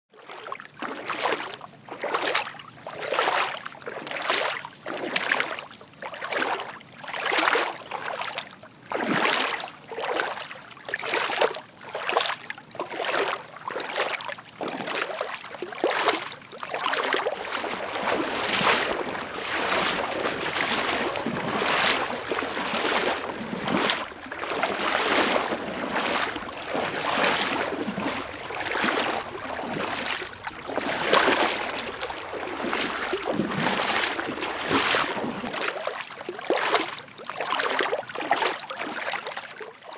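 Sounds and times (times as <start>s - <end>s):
footsteps splashing through water: 0.2s - 39.7s.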